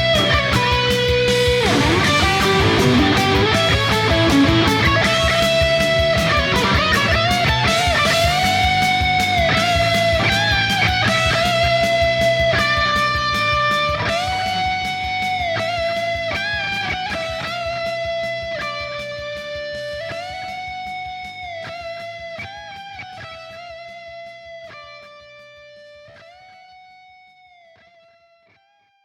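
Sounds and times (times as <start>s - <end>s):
rock backing track: 0.0s - 28.1s
electric guitar lead melody: 0.0s - 28.6s.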